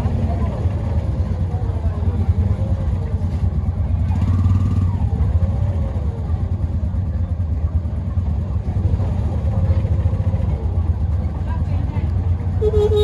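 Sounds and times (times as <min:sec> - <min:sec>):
faint voices: 0:00.0 - 0:13.0
vehicle engine rumbling: 0:00.0 - 0:13.0.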